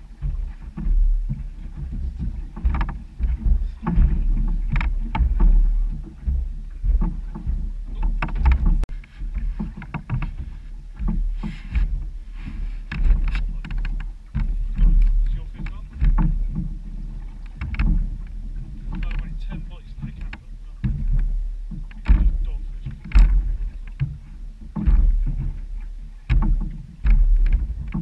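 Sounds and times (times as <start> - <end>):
water splashing against boat hull: 0.0 - 28.0
wind buffeting microphone: 0.0 - 28.0.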